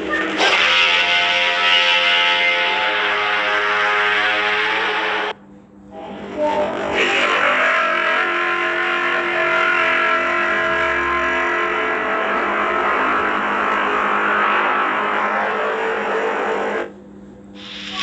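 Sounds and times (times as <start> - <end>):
robotic drone of held tones: 0.0 - 18.0.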